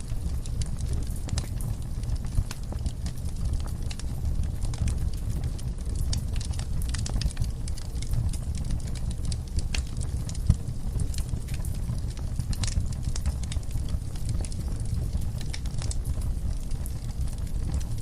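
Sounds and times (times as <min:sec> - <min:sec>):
fire flames rumbling: 0:00.0 - 0:18.0
logs crackling and popping: 0:00.0 - 0:18.0.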